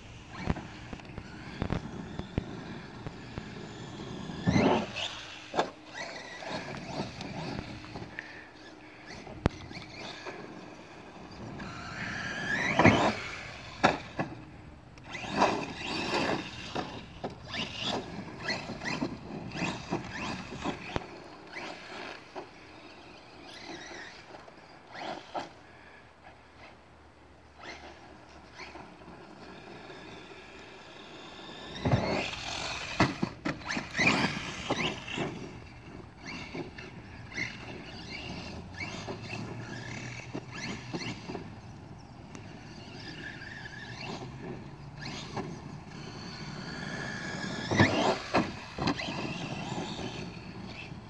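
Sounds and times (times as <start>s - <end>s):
tyres scrabbling on dirt: 0.0s - 25.6s, 27.6s - 51.0s
electric motor whining: 0.0s - 26.0s, 27.5s - 51.0s.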